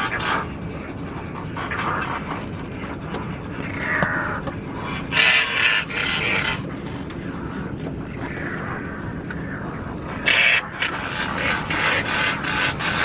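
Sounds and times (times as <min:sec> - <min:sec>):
seabirds calling: 0:00.0 - 0:13.0.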